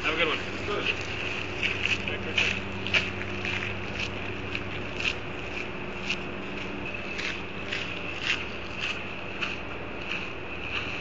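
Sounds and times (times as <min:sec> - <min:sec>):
footsteps scuffing on gritty pavement: 0:00.0 - 0:11.0
steady low hum: 0:00.0 - 0:11.0.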